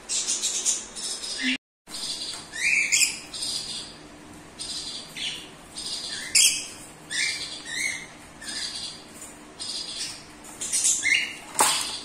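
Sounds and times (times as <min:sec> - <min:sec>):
lorikeet calling: 0:00.1 - 0:04.0, 0:04.6 - 0:09.0, 0:09.6 - 0:12.0.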